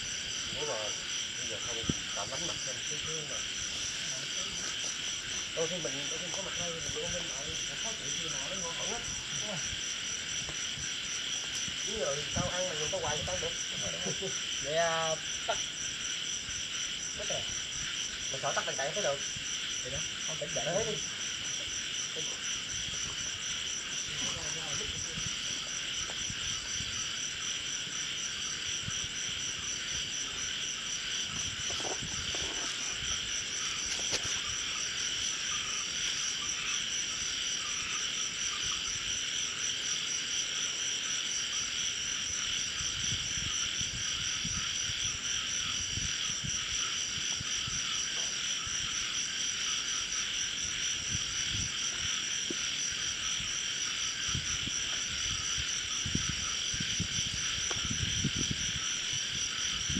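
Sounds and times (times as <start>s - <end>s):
insects and frogs shrill chorus: 0.0s - 59.9s.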